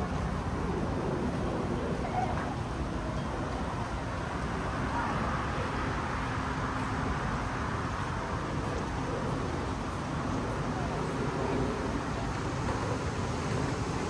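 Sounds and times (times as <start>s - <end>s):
faint indistinct voices: 0.0s - 14.0s
steady background noise: 0.0s - 14.0s.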